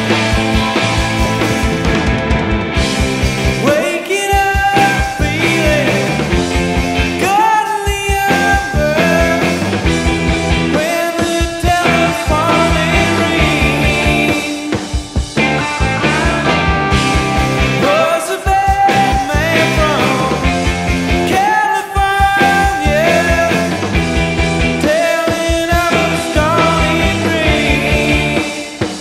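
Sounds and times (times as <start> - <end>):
rock music with drum beat: 0.0 - 29.0.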